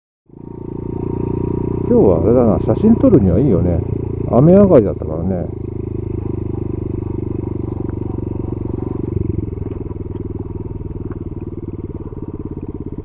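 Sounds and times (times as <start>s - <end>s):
small motorcycle engine running: 0.3s - 13.0s.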